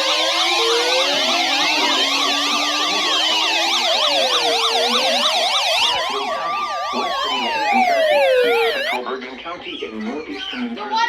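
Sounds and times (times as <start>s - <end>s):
wailing siren: 0.0s - 9.0s
yelp siren sweeps: 0.0s - 9.0s.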